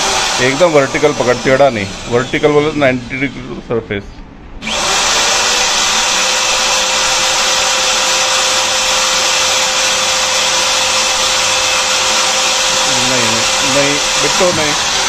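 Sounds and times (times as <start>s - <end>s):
electric drill whining: 0.0s - 2.1s, 4.6s - 15.0s.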